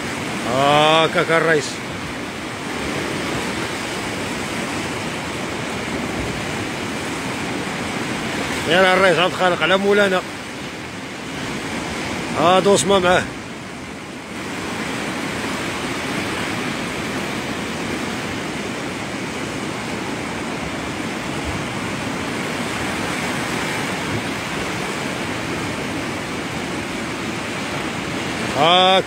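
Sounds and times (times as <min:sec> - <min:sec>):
sea surf breaking on rocks: 0:00.0 - 0:29.0.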